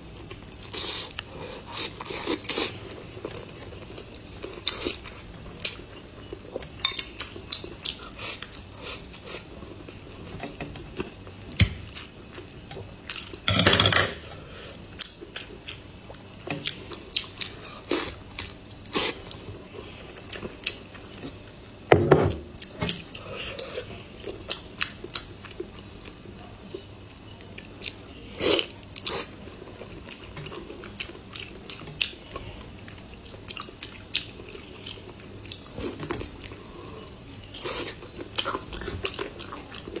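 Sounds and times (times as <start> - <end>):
person chewing meat: 0.2 - 13.4, 14.7 - 21.4, 22.6 - 26.2, 27.6 - 40.0.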